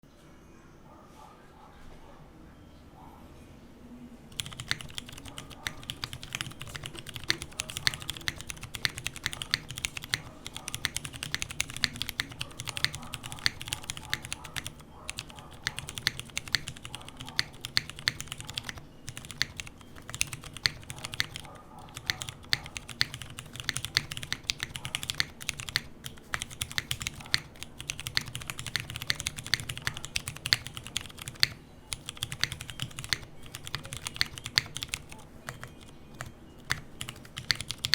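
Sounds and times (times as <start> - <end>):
fast mechanical keyboard typing: 4.3 - 37.9.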